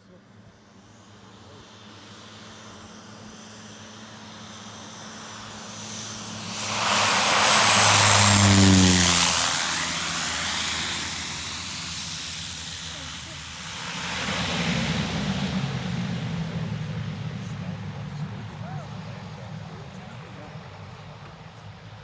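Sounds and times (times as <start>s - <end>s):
propeller aeroplane flying past: 0.0s - 22.0s.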